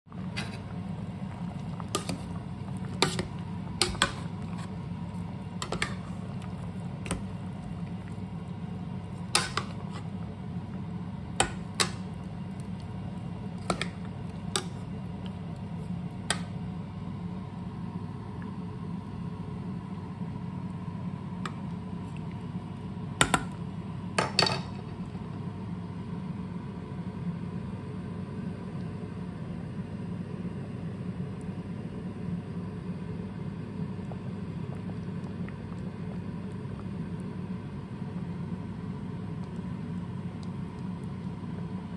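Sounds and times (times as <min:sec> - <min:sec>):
steady low hum: 0:00.1 - 0:41.9.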